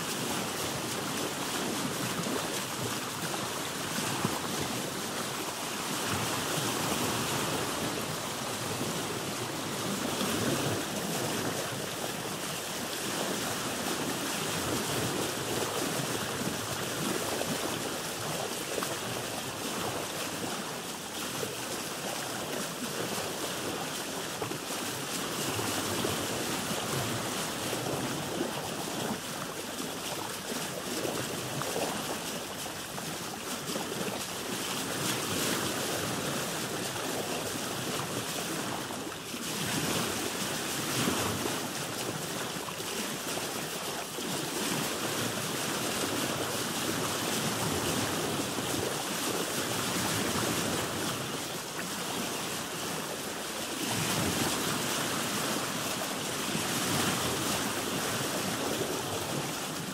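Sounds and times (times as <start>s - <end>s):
waves rushing and sloshing: 0.0s - 59.9s.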